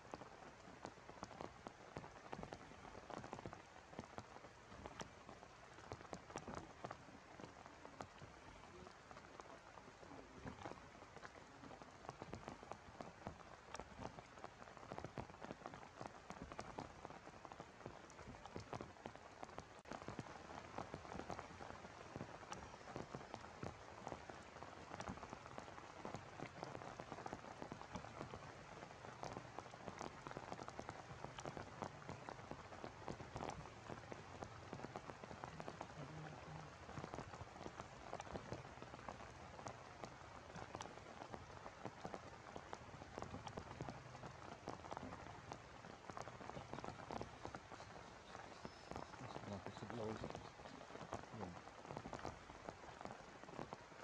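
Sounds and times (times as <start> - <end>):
raindrops ticking: 0.0 - 54.0
steady rain falling: 0.0 - 54.0.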